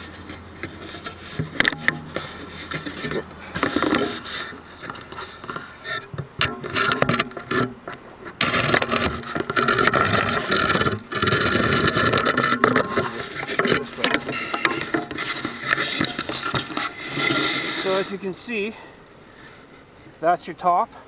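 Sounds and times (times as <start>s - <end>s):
camera rubbing and scraping: 0.0s - 18.4s.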